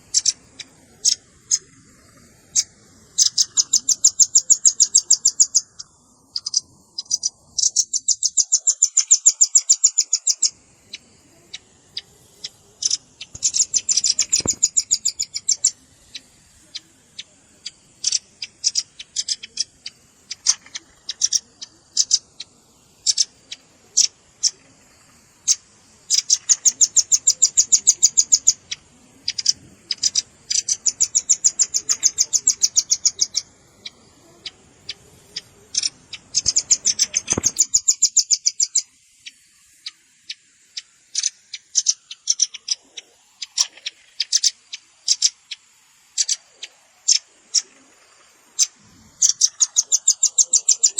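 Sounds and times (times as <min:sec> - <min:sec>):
nuthatch calling: 0:00.0 - 0:50.9.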